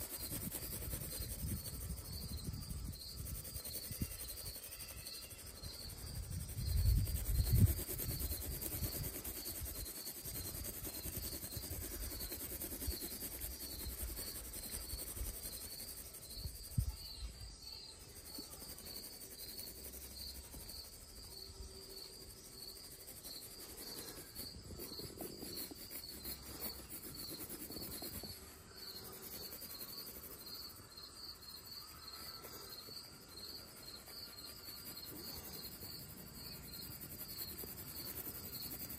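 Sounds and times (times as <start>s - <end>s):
pencil scratching on paper: 0.0s - 17.2s, 18.0s - 38.9s
insect chirping: 0.0s - 38.9s.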